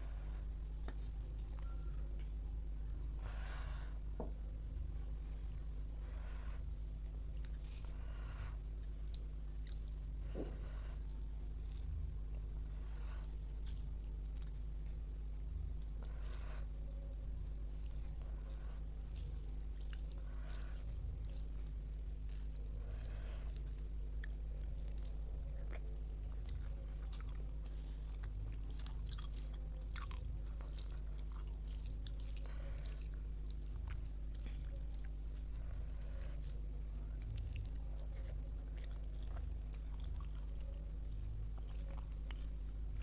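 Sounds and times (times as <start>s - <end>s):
person chewing food: 0.0s - 43.0s
steady low hum: 0.0s - 43.0s.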